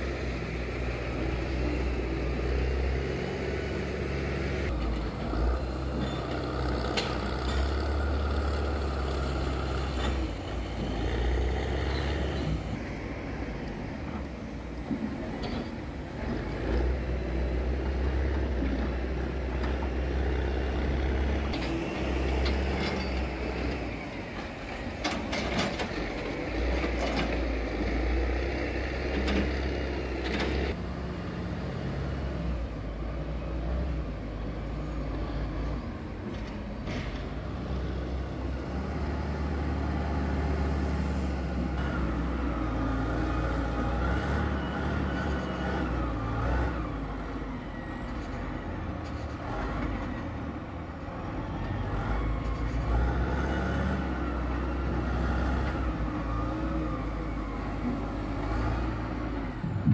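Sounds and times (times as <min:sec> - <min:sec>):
diesel engine rumble: 0:00.0 - 0:59.9.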